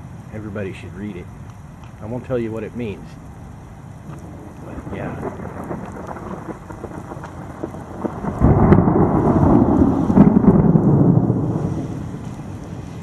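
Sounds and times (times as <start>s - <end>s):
rain pattering: 0.0s - 13.0s
thunder rumbling: 2.1s - 13.0s.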